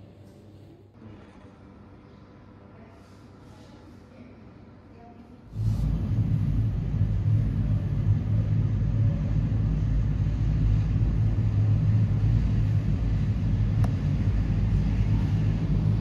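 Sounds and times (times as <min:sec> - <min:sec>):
turboprop engines droning: 0:01.0 - 0:16.0.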